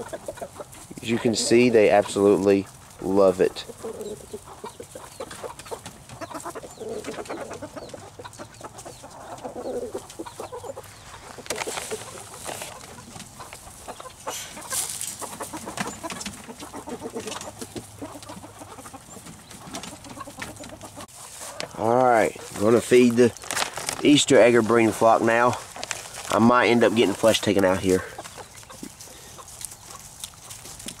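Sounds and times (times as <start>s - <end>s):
hens and roosters clucking: 0.0s - 31.0s
rustling: 0.0s - 31.0s.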